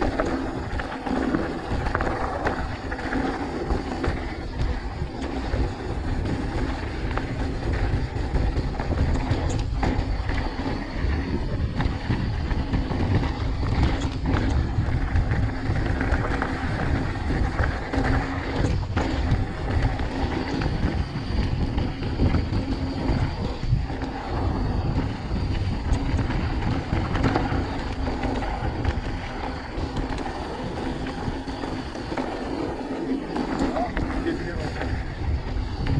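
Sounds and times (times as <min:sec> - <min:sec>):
bike rattling over bumps: 0:00.0 - 0:35.9
wind on microphone: 0:00.0 - 0:35.9.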